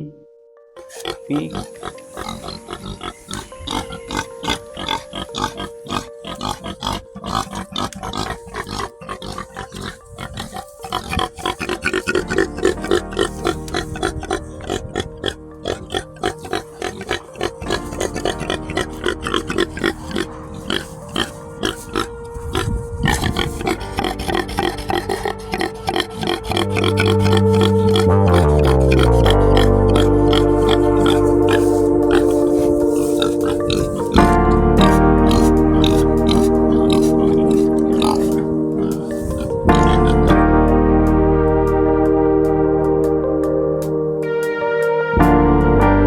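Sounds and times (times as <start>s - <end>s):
background music: 0.0s - 46.0s
pig grunting: 0.8s - 40.5s.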